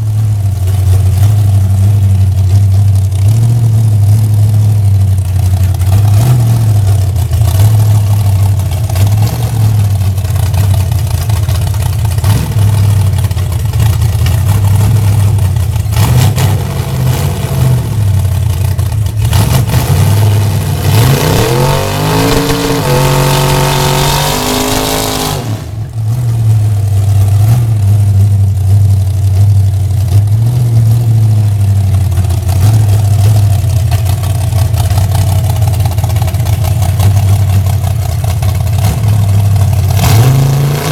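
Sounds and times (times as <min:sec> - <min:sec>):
drag car engine idling and revving: 0:00.0 - 0:40.9.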